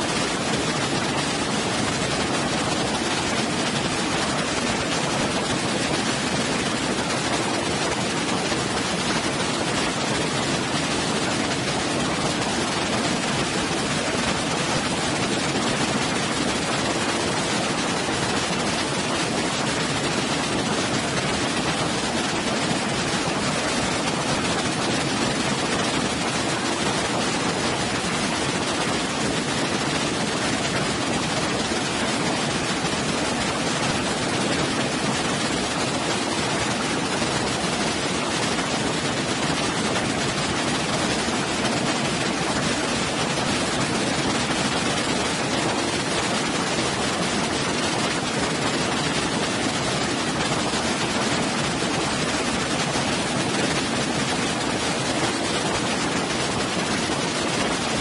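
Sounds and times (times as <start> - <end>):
waterfall over boulders: 0.0 - 58.0.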